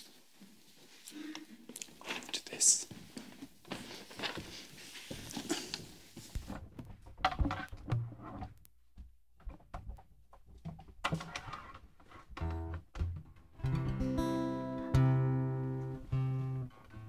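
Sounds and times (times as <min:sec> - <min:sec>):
guitars being handled: 0:02.9 - 0:17.0.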